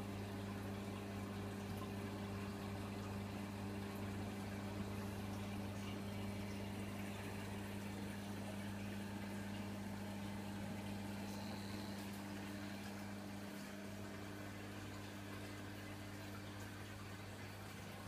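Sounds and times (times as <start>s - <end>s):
aquarium pumps humming: 0.0s - 18.0s.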